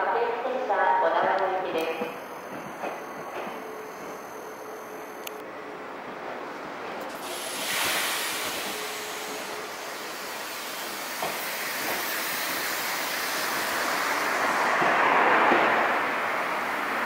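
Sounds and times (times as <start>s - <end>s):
electric train passing: 1.4s - 17.0s.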